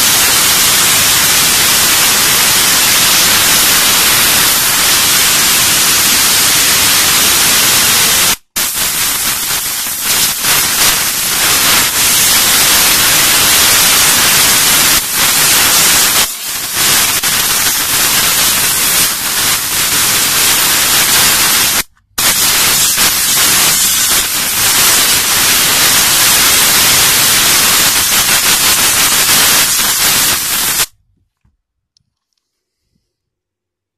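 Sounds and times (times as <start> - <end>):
steam jet hissing: 0.0 - 30.9.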